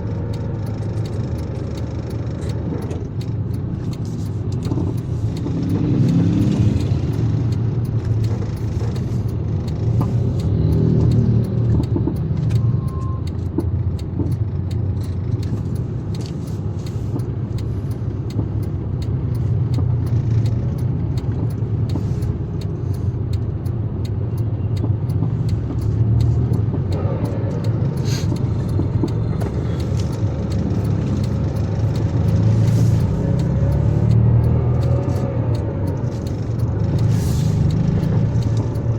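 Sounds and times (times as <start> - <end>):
road noise: 0.0 - 38.9
vehicle engine rumble: 0.0 - 38.9.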